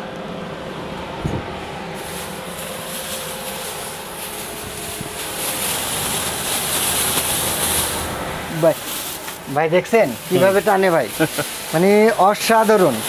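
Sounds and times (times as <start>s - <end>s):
extractor fan air rushing: 0.0s - 13.0s.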